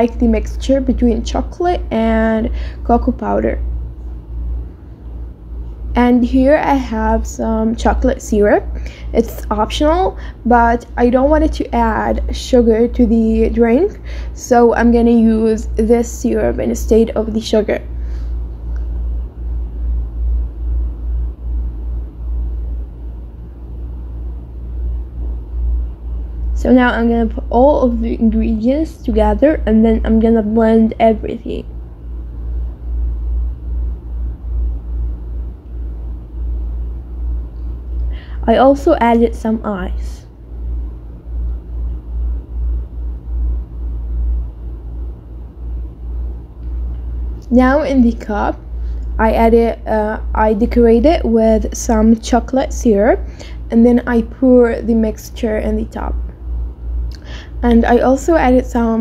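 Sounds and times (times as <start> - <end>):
faint hum: 0.0 - 59.0
low rumble: 0.0 - 59.0.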